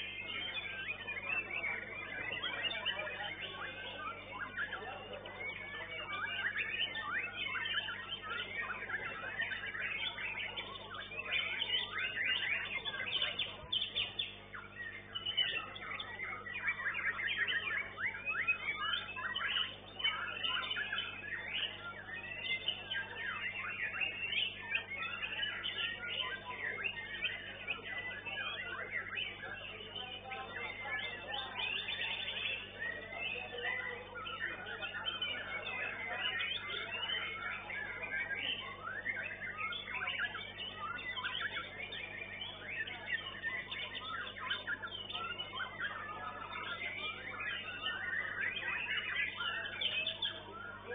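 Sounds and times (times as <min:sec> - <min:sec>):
bird singing: 0:00.0 - 0:50.9.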